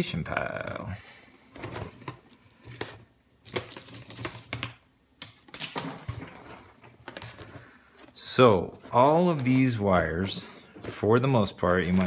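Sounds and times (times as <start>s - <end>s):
wires and plastic connectors rustling: 1.5s - 12.0s.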